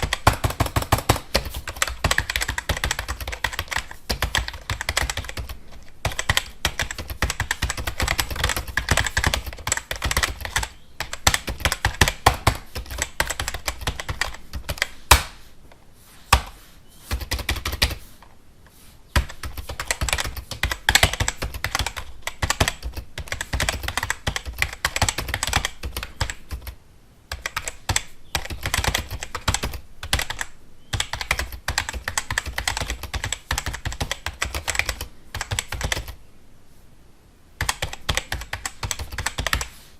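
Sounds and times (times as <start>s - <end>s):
keyboard typing: 0.0s - 15.2s, 16.3s - 18.0s, 19.1s - 36.2s, 37.6s - 39.8s.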